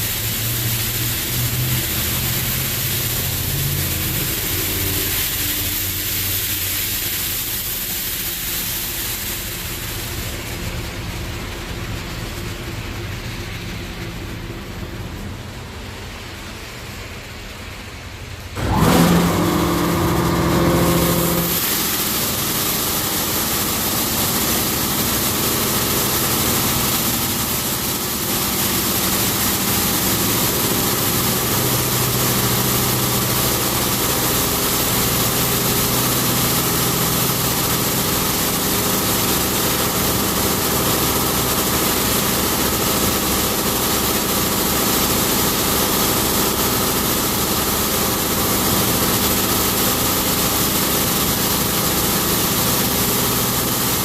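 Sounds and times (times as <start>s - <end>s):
high-pressure water jets spraying: 0.0s - 12.9s, 18.6s - 54.0s
running pump: 0.0s - 16.2s, 18.6s - 54.0s
car wash machinery hum: 0.0s - 54.0s.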